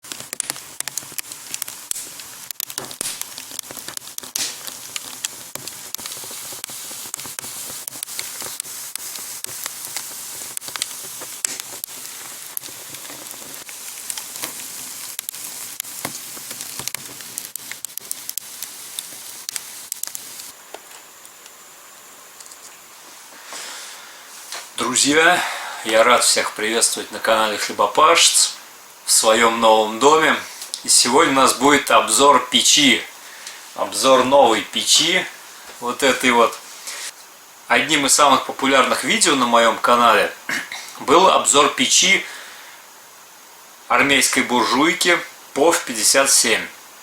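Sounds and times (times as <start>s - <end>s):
wood fire crackling and popping: 0.0s - 47.0s.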